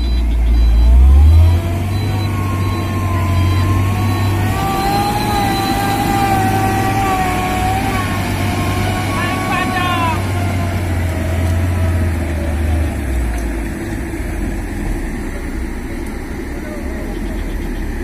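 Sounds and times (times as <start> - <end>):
heavy diesel engines under load: 0.0 - 18.0
wavering whine: 0.0 - 18.0.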